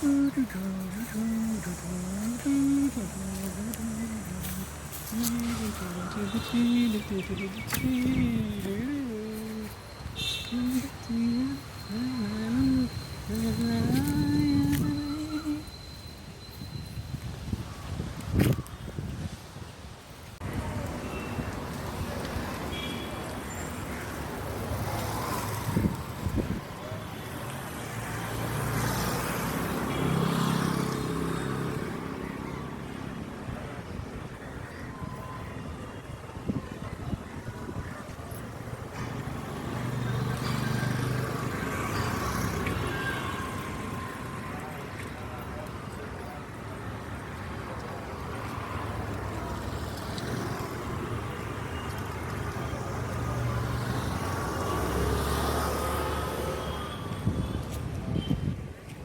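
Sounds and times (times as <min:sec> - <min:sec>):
background traffic noise: 0:00.0 - 0:59.0.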